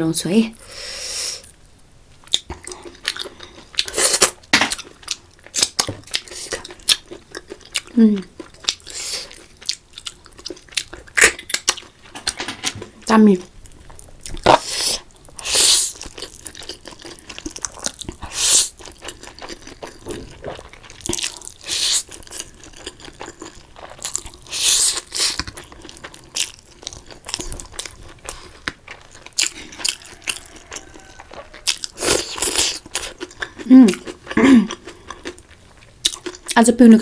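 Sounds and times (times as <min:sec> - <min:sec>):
crunching and chewing food: 0:02.2 - 0:37.0.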